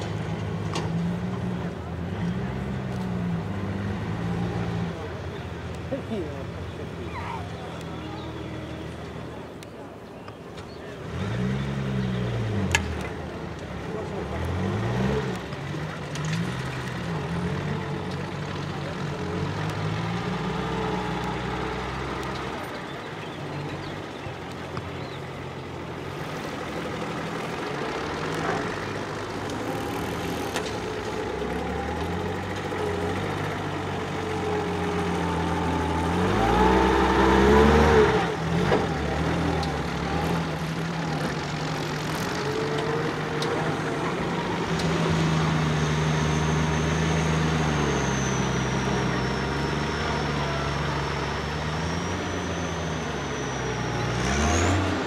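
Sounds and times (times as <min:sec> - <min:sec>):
truck engine working at low revs: 0:00.0 - 0:55.0.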